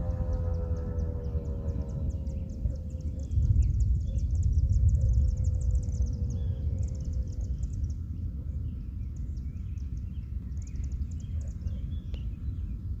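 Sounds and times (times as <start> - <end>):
birds chirping and trilling: 0.0 - 13.0
wind rumbling on microphone: 0.0 - 13.0.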